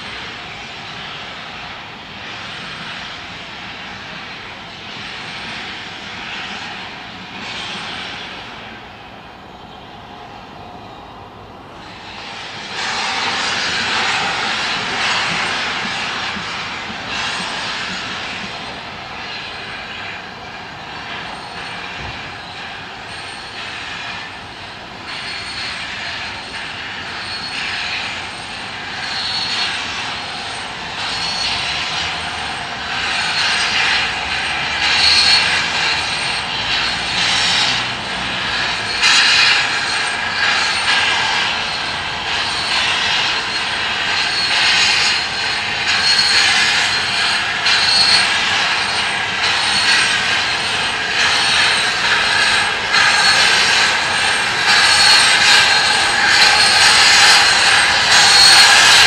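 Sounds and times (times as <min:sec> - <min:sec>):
rhythmic hiss of steam locomotive: 0:00.0 - 0:59.0.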